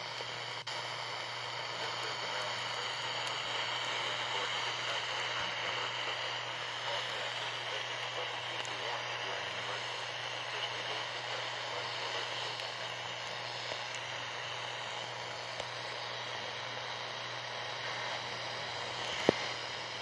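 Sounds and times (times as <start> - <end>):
low steady hum: 0.0 - 20.0
radio static hiss: 0.0 - 20.0.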